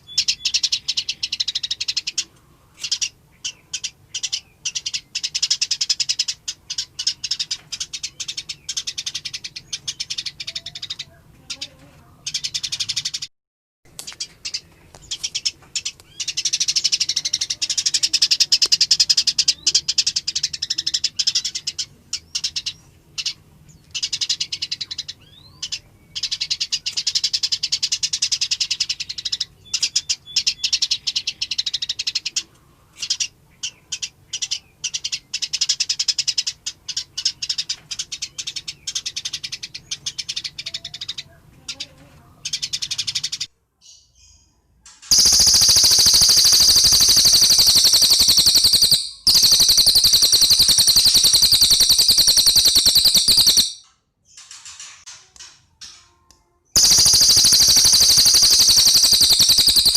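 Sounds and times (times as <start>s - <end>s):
songbird chattering song: 0.0s - 13.3s, 13.9s - 54.4s, 56.8s - 59.9s.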